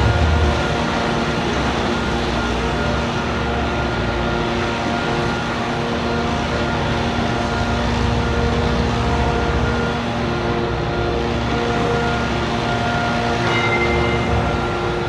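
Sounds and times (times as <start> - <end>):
droning hum: 0.0 - 15.0
street traffic: 0.0 - 15.0.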